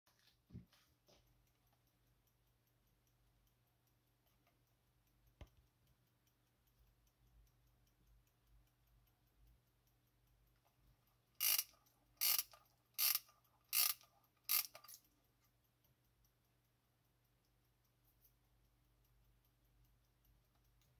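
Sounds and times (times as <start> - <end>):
clock winding ratchet: 1.2 - 20.9.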